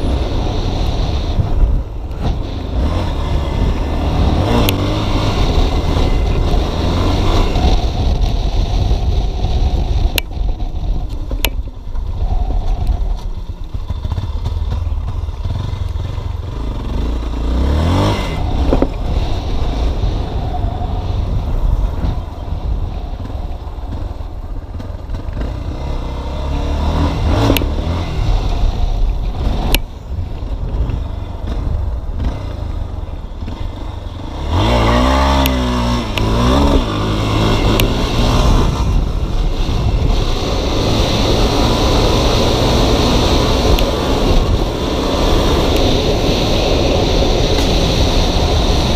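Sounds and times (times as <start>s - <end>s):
motorcycle engine revving: 0.0s - 48.9s
wind rumble on microphone: 0.0s - 48.9s.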